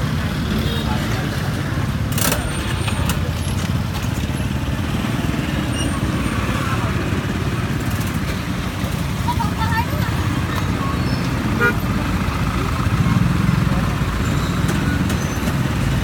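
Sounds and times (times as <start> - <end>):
motorbike engines running: 0.0 - 16.0
street traffic rumble: 0.0 - 16.0.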